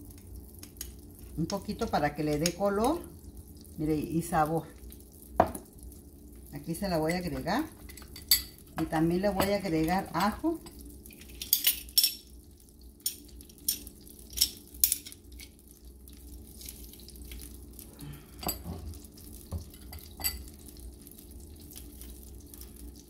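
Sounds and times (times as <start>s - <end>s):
butter sizzling in a frying pan: 0.0s - 23.0s.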